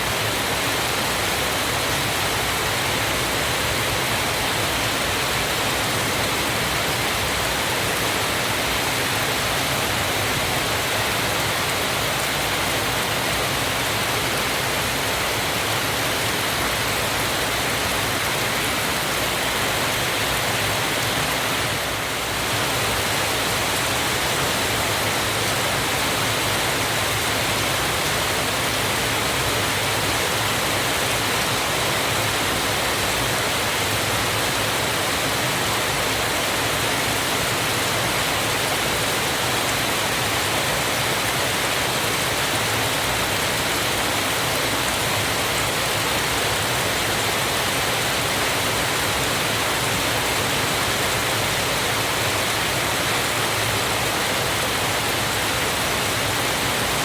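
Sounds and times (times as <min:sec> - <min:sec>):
waterfall pouring and splashing: 0:00.0 - 0:57.0.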